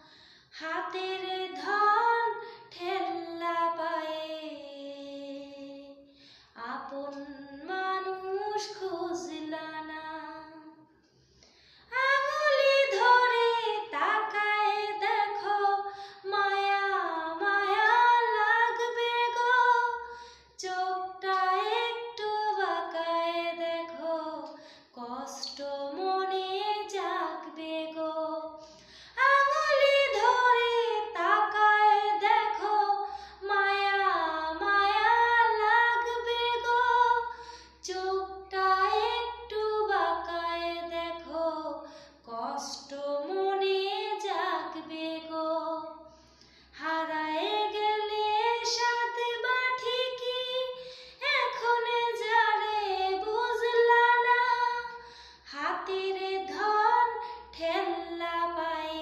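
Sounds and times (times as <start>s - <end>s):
woman singing unaccompanied: 0.0s - 10.8s, 11.9s - 28.6s, 29.2s - 46.0s, 46.8s - 59.0s.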